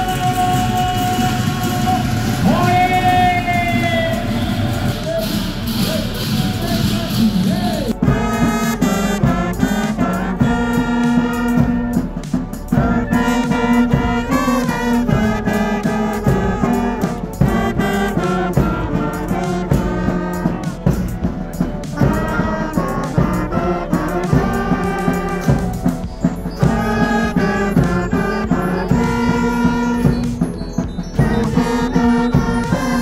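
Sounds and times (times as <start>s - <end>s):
brass band playing: 0.0s - 33.0s
crowd noise: 0.0s - 33.0s.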